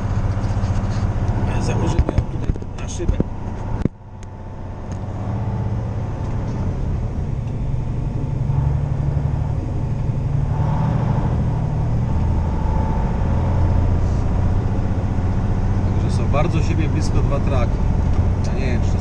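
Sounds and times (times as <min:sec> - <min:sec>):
diesel truck engine running: 0:00.0 - 0:19.0
road noise: 0:00.0 - 0:19.0.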